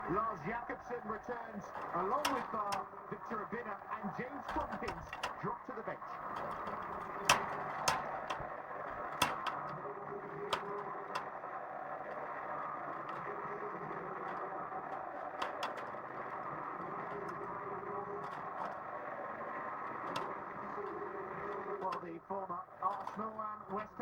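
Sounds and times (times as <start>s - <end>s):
stadium crowd noise on television: 0.0s - 24.0s.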